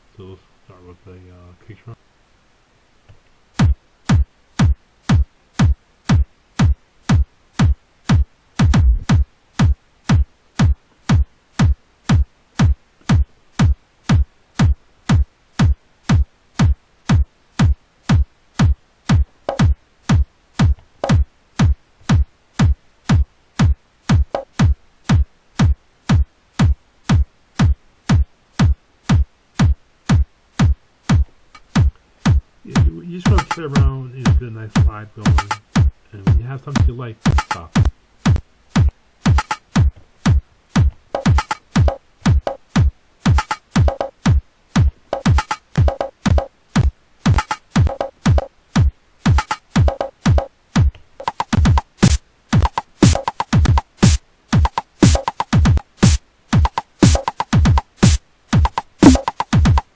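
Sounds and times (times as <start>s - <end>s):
electronic kick drum loop: 3.6s - 59.9s.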